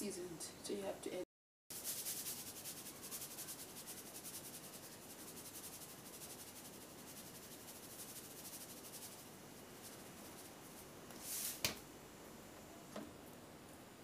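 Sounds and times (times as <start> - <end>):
steady fluttering hiss: 1.7 - 14.0.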